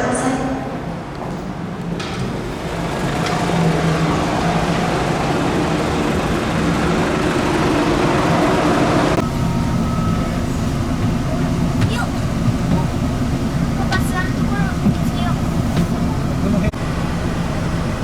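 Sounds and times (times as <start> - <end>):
engine hum: 1.2 - 18.0
loud rushing noise: 2.0 - 17.7.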